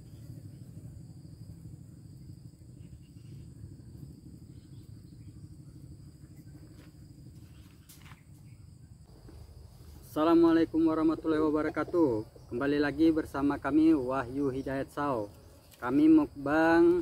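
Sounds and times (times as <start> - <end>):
faint insect chirring: 0.0 - 17.0
low steady rumble: 0.0 - 17.0.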